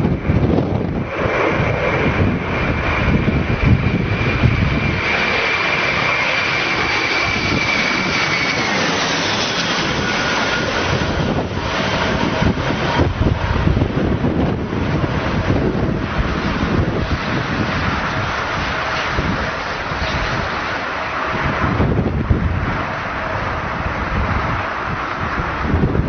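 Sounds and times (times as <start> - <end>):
aircraft engine whining: 0.0 - 26.0.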